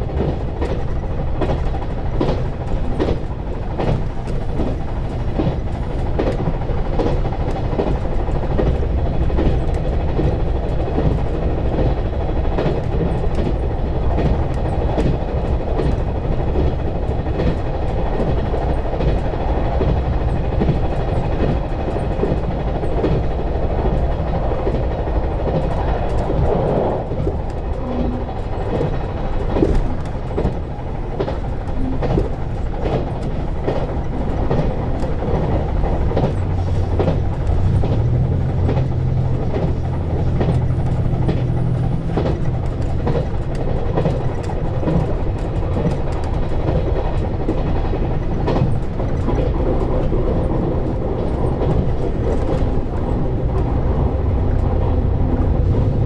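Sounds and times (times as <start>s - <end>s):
low diesel engine hum: 0.0s - 56.0s
railcar rumbling at speed: 0.0s - 56.0s
wheels clicking over rail joints: 0.0s - 56.0s.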